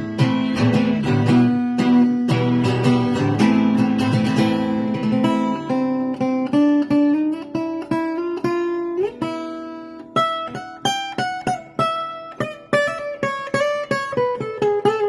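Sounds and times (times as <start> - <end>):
guitar plucked notes: 0.0 - 15.0.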